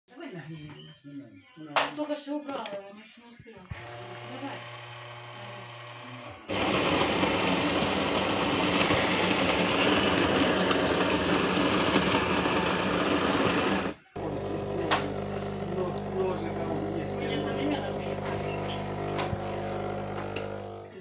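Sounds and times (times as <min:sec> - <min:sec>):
grinder grinding coffee beans: 0:03.7 - 0:21.0
machine buzzing hum: 0:03.7 - 0:21.0.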